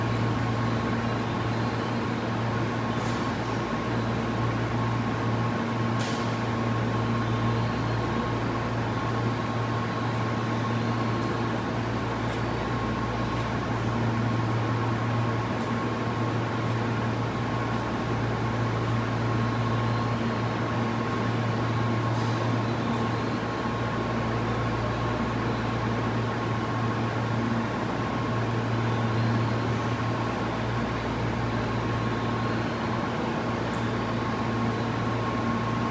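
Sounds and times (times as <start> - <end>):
train car hum: 0.0 - 35.9.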